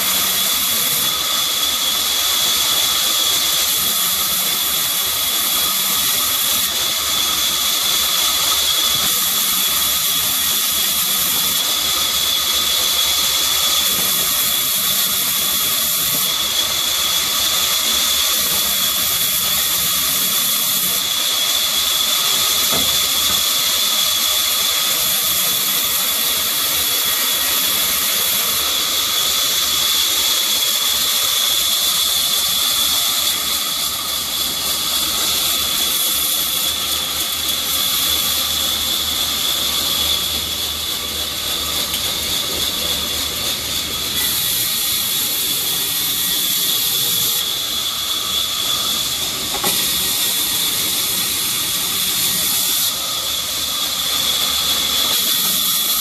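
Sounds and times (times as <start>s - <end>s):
band saw cutting timber: 0.0s - 56.0s.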